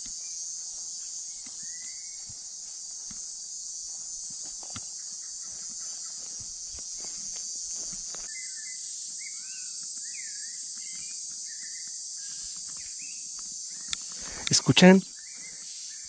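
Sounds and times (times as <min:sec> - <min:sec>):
insect buzz: 0:00.0 - 0:16.0.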